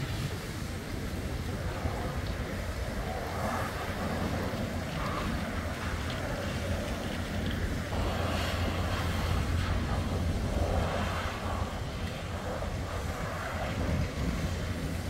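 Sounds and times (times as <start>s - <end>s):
wind on the microphone: 0.0s - 15.0s
distant vehicles rumbling: 0.7s - 15.0s.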